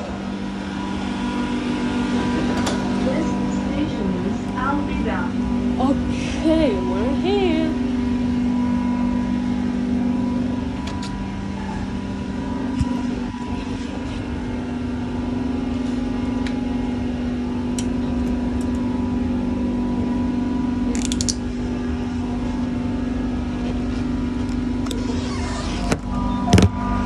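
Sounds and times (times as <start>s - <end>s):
low train rumble: 0.0s - 27.0s
train drive hum: 0.0s - 27.0s.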